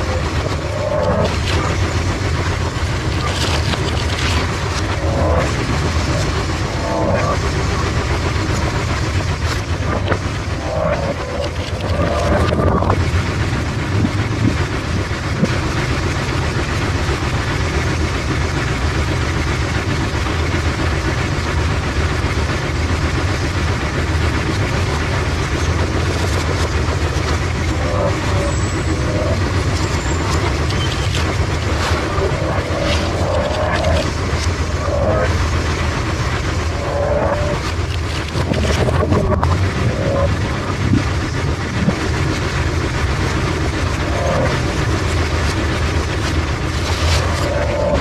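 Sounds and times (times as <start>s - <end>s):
low motor drone: 0.0s - 48.0s
mechanical rattling: 0.0s - 48.0s.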